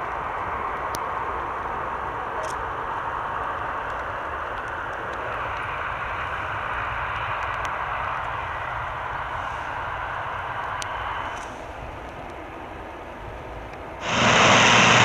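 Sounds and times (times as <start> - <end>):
aircraft engines rushing: 0.0 - 15.0.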